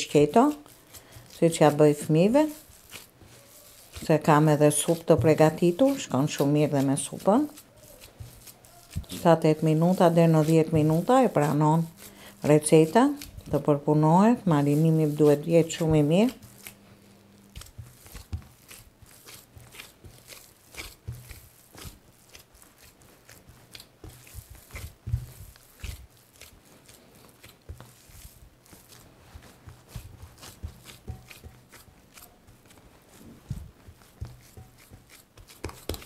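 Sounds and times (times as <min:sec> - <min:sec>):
wet squishing of kneaded meat: 0:00.0 - 0:36.0.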